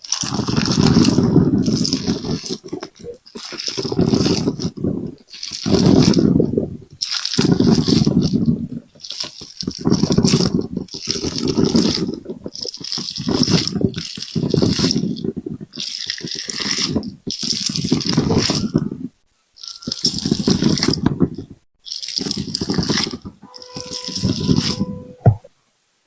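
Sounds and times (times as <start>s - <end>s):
jelly squishing and crackling: 0.0s - 25.4s.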